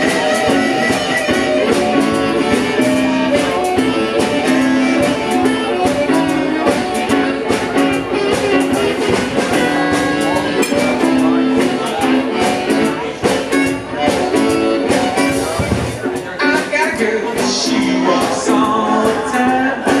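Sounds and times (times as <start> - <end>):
blues guitar: 0.0 - 20.0
drum beat with cymbals and snare: 0.0 - 20.0.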